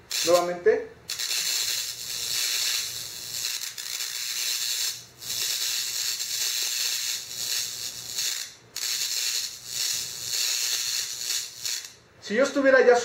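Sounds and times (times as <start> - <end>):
electric spark crackling hiss: 0.0 - 12.0.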